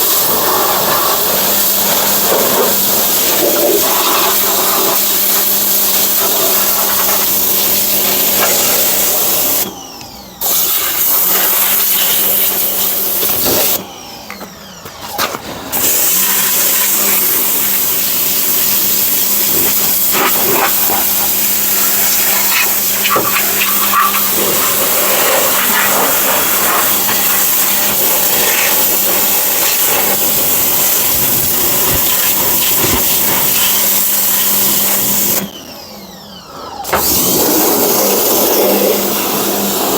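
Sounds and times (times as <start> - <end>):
pressure washer jet hissing: 0.0 - 9.7, 10.4 - 13.8, 15.7 - 35.5, 36.8 - 39.9
pump motor humming: 0.0 - 39.9.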